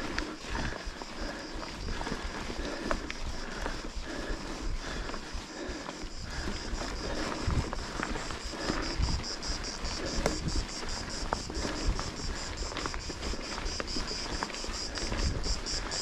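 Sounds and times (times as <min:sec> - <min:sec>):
wind buffeting on microphone: 0:00.0 - 0:16.0.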